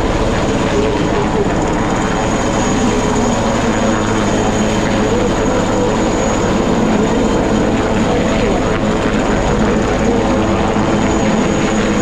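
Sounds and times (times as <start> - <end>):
helicopter rotors beating: 0.0 - 12.0.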